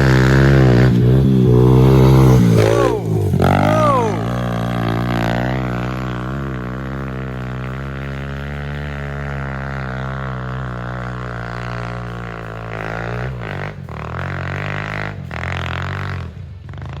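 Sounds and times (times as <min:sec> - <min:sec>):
motorbike engine droning: 0:00.0 - 0:17.0.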